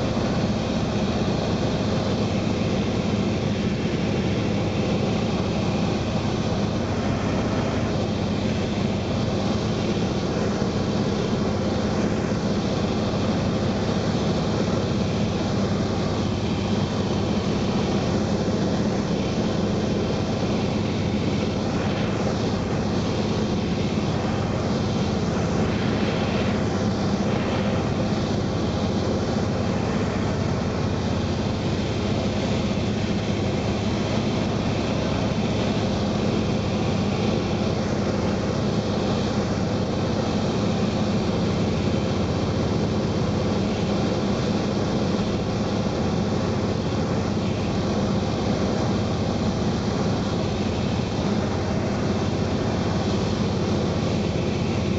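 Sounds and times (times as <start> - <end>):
airplane engine and propeller droning: 0.0 - 54.9.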